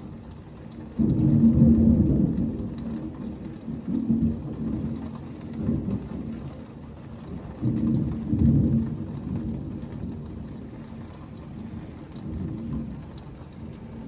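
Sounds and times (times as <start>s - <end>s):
heavy rain falling: 0.0s - 14.0s
low rumble of thunder: 0.0s - 14.0s.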